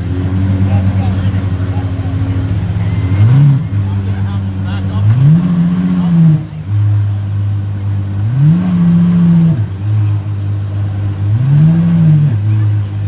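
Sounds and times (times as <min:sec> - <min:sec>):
engine throttle blips: 0:00.0 - 0:13.0
sports car engine idling: 0:00.0 - 0:13.0.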